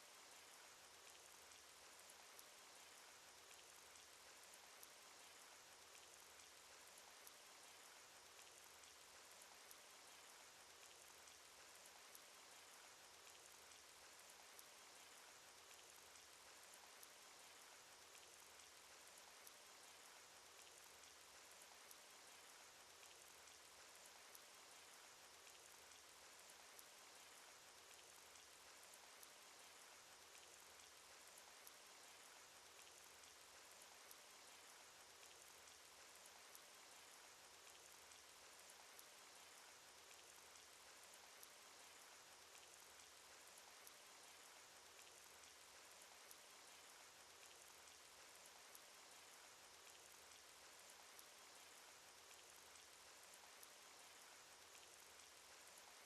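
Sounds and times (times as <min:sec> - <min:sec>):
faint hiss of falling rain: 0:00.0 - 0:56.0
raindrop ticks: 0:00.1 - 0:56.0.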